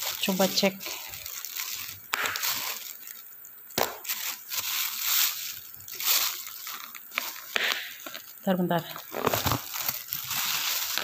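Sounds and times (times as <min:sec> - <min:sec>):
plastic bag and container crinkling: 0:00.0 - 0:11.0.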